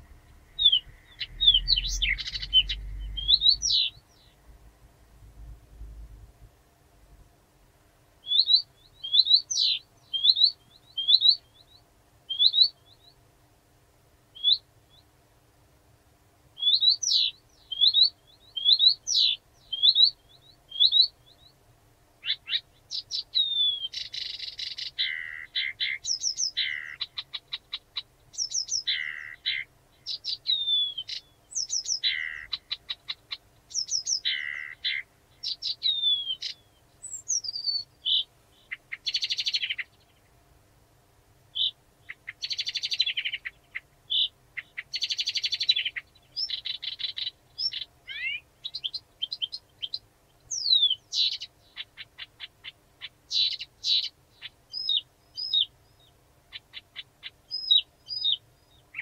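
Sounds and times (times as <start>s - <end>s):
warbler singing: 0.0s - 4.6s, 8.2s - 13.2s, 14.4s - 15.1s, 16.6s - 21.6s, 22.2s - 40.3s, 41.5s - 59.0s.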